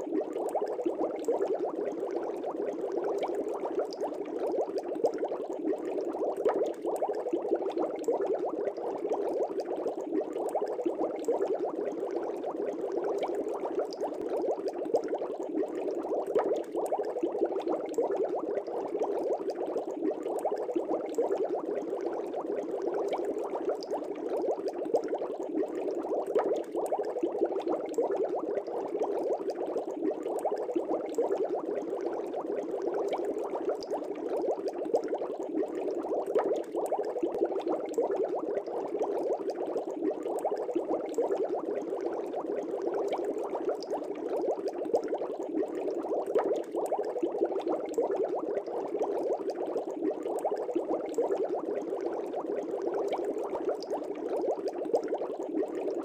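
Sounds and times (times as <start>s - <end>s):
aquarium air bubbles popping: 0.0s - 56.0s.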